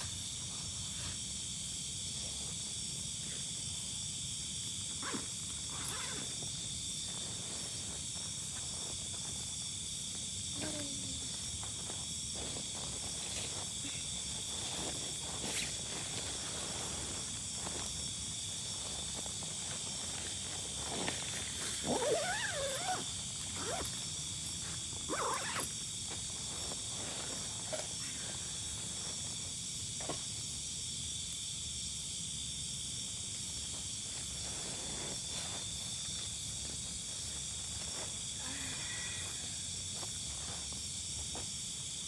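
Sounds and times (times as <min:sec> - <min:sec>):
night insects trilling: 0:00.0 - 0:42.0.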